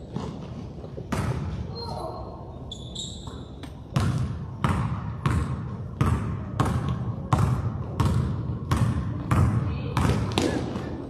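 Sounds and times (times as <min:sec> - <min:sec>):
basketball bouncing on gym floor: 0:00.0 - 0:01.8, 0:03.2 - 0:11.0.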